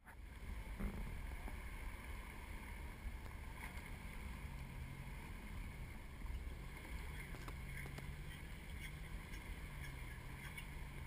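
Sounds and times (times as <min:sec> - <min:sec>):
water splashing around tyres: 0:01.9 - 0:11.0.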